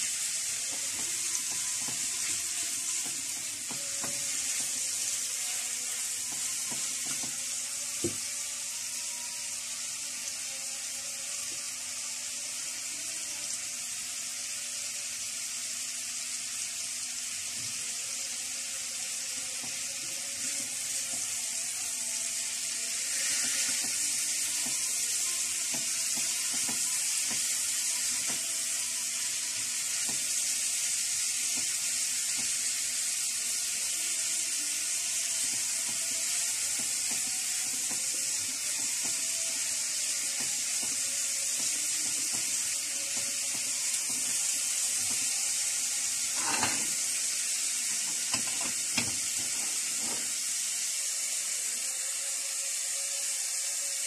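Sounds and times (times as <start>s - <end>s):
chicken sizzling in a frying pan: 0.0s - 54.0s.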